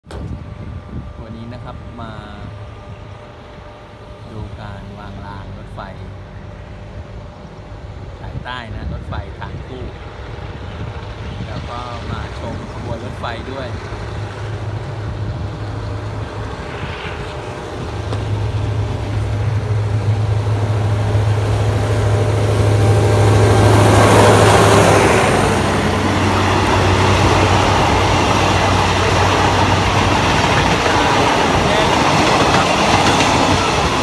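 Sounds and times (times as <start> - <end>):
diesel locomotive engine drone: 0.0 - 34.0
train coaches rumbling past: 0.1 - 34.0.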